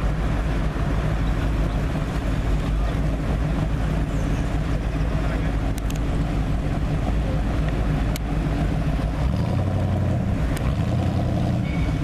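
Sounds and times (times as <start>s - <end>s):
car engine approaching: 0.0s - 12.0s.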